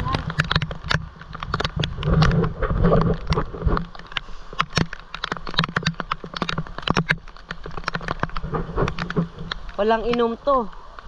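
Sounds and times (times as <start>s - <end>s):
rain falling: 0.0s - 11.0s
raindrops tapping near microphone: 0.0s - 11.0s.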